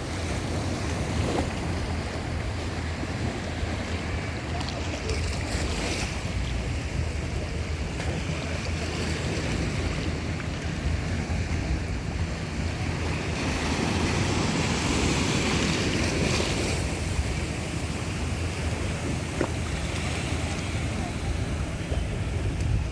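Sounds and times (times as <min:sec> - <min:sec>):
sea waves washing in: 0:00.0 - 0:22.9
wind rumbling on microphone: 0:00.0 - 0:22.9.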